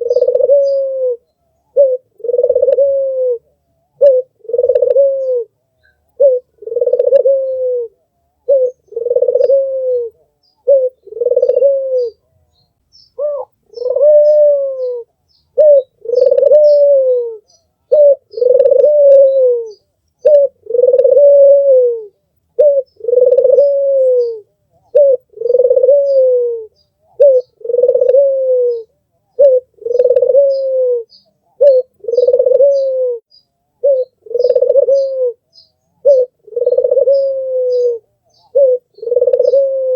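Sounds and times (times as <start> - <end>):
small bird chirping: 0.0 - 2.9, 4.0 - 7.7, 8.4 - 21.3, 22.0 - 39.9
dove cooing: 0.0 - 12.4, 13.2 - 39.9.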